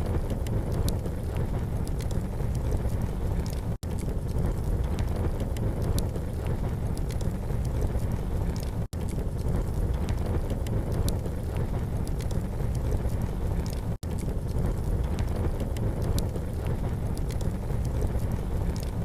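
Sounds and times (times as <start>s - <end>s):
campfire crackling: 0.0s - 19.0s
wind rumble on microphone: 0.0s - 19.0s.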